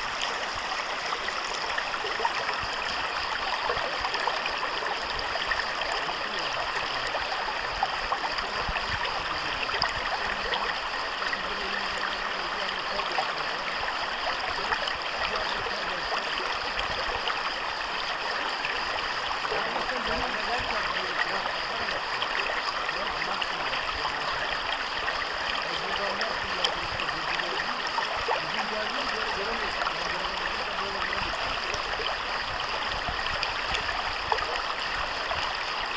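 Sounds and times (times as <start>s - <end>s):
stream rushing over rocks: 0.0s - 35.9s.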